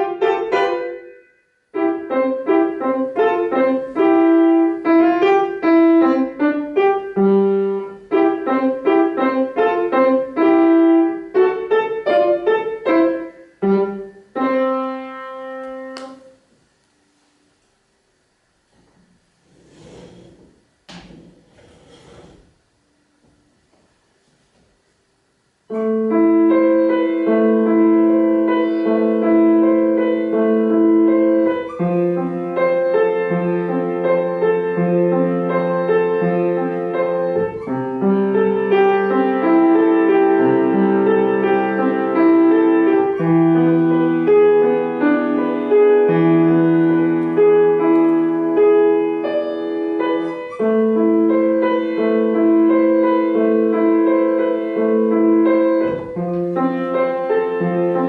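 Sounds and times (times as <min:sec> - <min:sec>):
slow solo piano piece: 0:00.0 - 0:16.8, 0:25.7 - 0:58.0.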